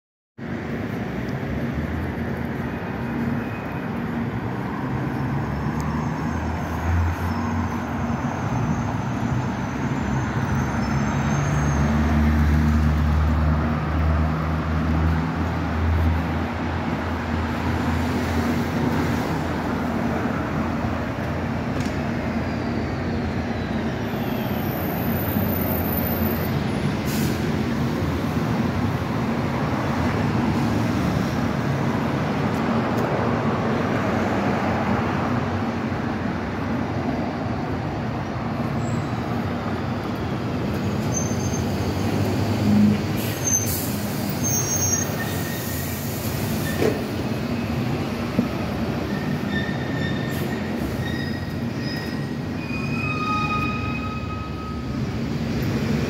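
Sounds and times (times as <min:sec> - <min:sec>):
cars passing on street: 0:00.4 - 0:56.0.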